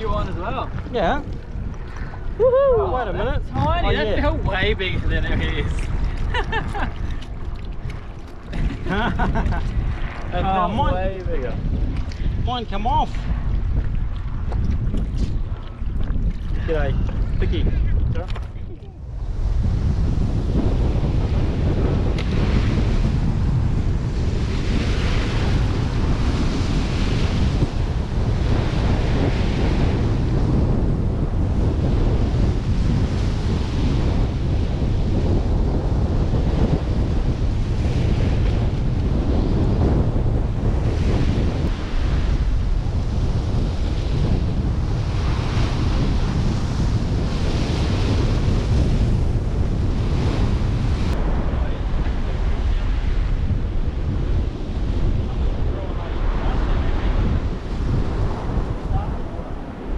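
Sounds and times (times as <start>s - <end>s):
waves washing on shore: 0.0s - 59.9s
wind buffeting microphone: 0.0s - 59.9s.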